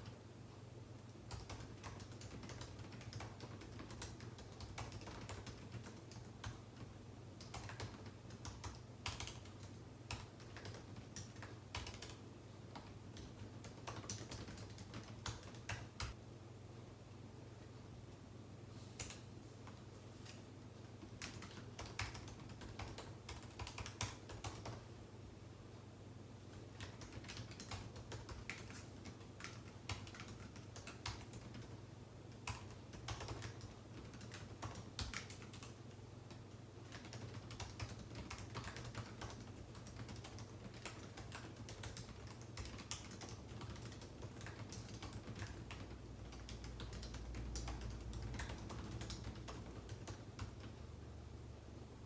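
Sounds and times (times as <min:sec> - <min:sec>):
steady low hum: 0:00.0 - 0:52.0
computer keyboard typing: 0:01.3 - 0:16.2, 0:19.0 - 0:20.4, 0:21.0 - 0:24.9, 0:26.4 - 0:50.8.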